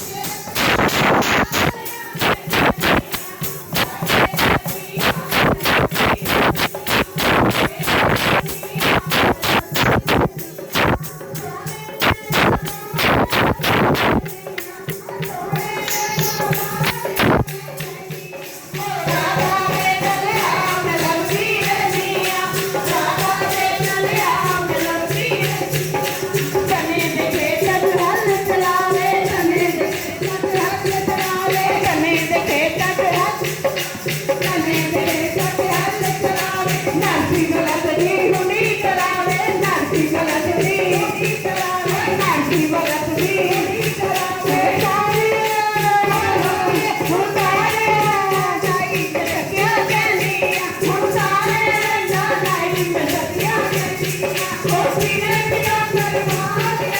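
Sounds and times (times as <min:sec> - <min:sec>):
devotional group singing: 0:00.0 - 0:56.9
jingling hand percussion: 0:00.0 - 0:56.9
sharp percussion strikes: 0:00.0 - 0:56.9.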